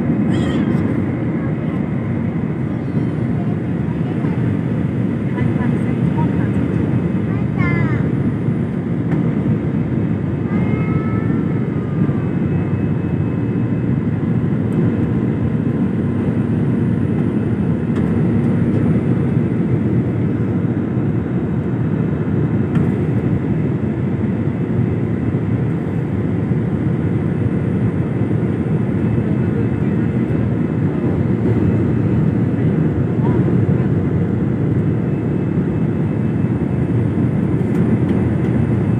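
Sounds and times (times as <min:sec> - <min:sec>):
airplane engine rumble: 0:00.0 - 0:38.9.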